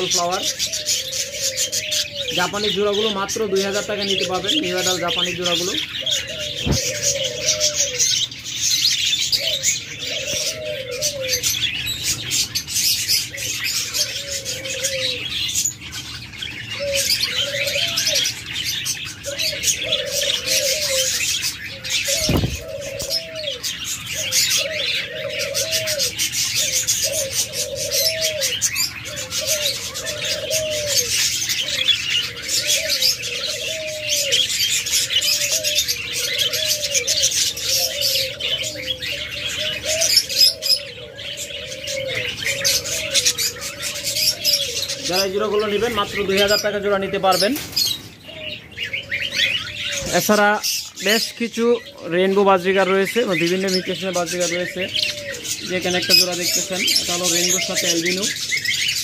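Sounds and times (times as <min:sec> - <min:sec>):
budgerigars chattering and chirping: 0:00.0 - 0:59.0
dove cooing: 0:00.0 - 0:59.0.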